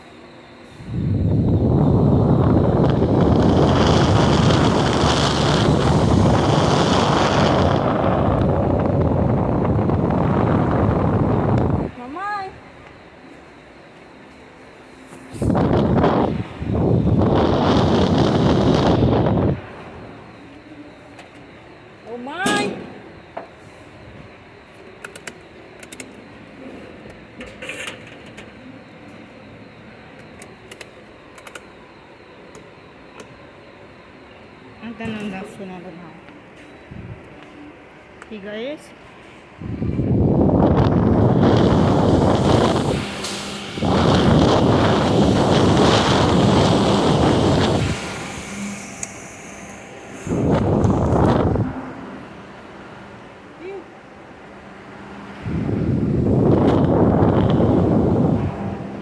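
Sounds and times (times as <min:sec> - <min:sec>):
electric fan airflow rushing: 0:00.0 - 0:59.0.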